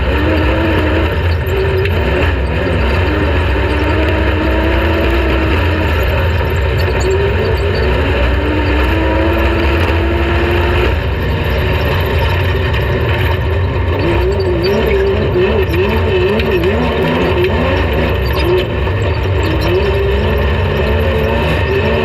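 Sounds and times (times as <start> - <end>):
race vehicle engine revving: 0.0 - 22.0.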